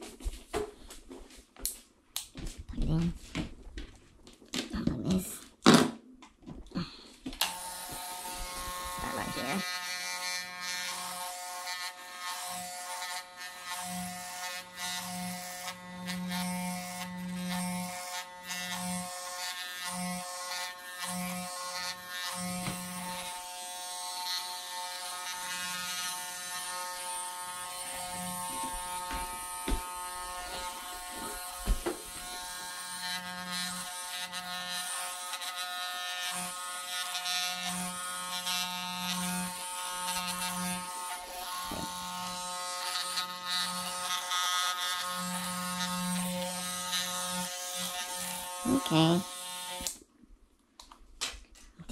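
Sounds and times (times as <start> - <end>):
electric hair clippers buzzing: 7.4 - 50.0.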